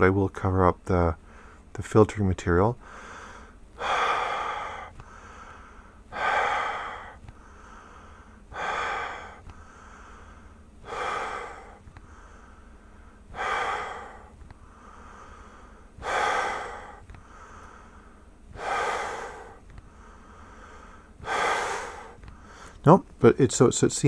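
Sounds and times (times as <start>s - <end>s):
person breathing through respirator: 2.8s - 22.8s.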